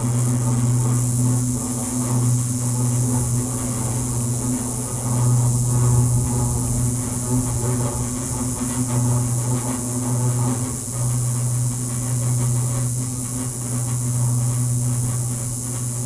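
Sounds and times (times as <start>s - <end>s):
electrical buzz: 0.0s - 15.5s.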